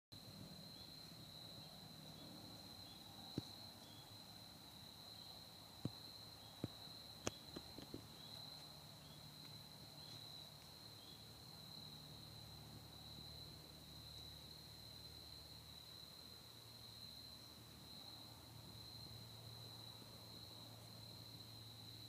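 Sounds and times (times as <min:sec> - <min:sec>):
insect trill: 0:00.2 - 0:22.0.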